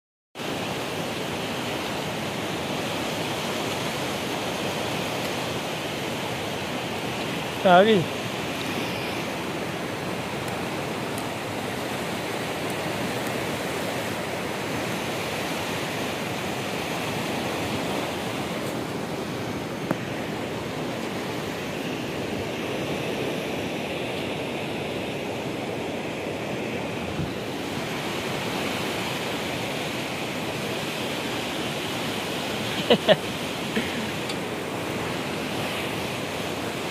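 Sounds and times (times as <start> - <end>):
turbulent river water rushing: 0.4 - 36.9.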